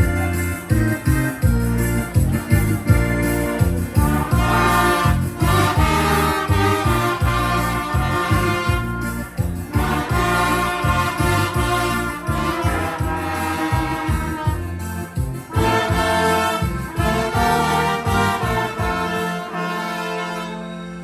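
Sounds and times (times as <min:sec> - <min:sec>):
pulsing bass line: 0:00.0 - 0:19.6
brass band playing: 0:00.0 - 0:21.0.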